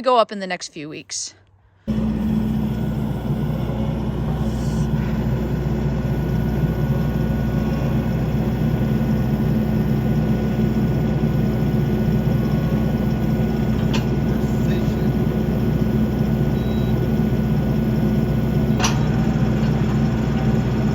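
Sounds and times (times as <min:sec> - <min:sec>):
skid steer engine droning: 0:01.9 - 0:20.9.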